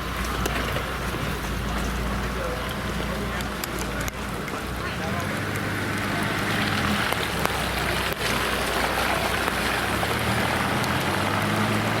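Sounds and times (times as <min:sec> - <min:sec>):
rain hissing: 0:00.0 - 0:12.0
raindrop ticks: 0:00.0 - 0:12.0
vehicle engine humming: 0:00.0 - 0:12.0.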